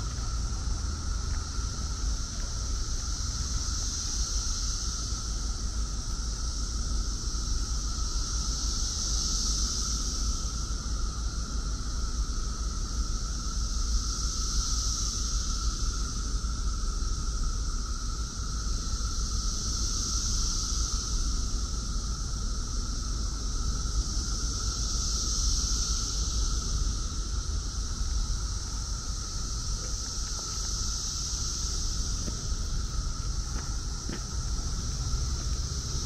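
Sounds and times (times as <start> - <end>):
cicadas droning buzz: 0.0 - 36.0
lower steady drone: 0.0 - 36.0.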